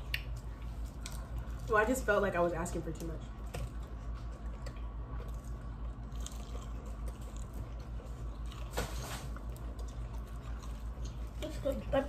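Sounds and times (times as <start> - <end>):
chewing: 0.0 - 2.0, 3.3 - 12.0
low steady hum: 0.0 - 12.0.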